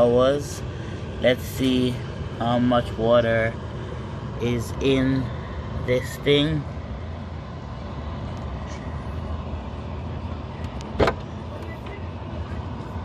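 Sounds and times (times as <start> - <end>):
dehumidifier humming: 0.0 - 13.0.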